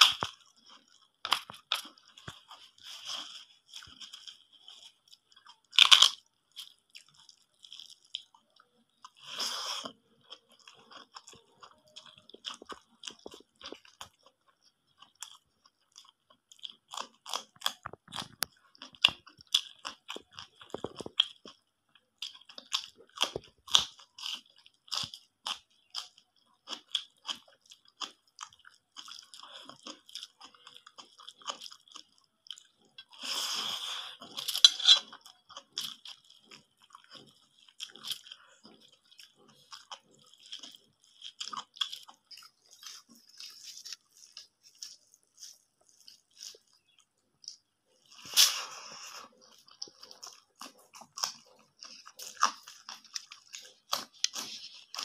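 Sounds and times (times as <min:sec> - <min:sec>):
close-miked chewing and crunching: 0:00.0 - 0:55.0.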